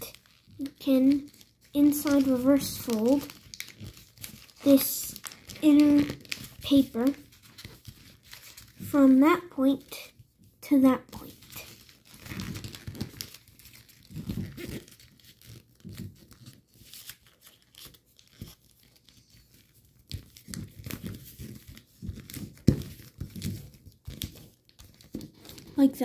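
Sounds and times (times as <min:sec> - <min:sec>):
paper rustling and crinkling: 0:00.0 - 0:08.9, 0:11.2 - 0:26.0.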